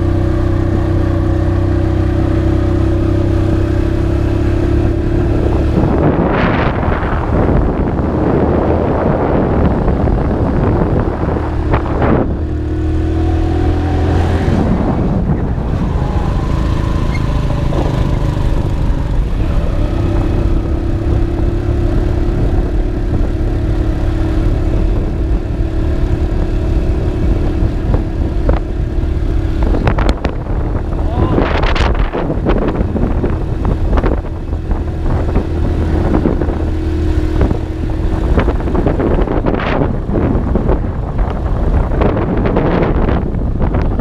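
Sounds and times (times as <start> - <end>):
motorcycle engine running: 0.0 - 44.0
wind noise on microphone: 0.0 - 44.0.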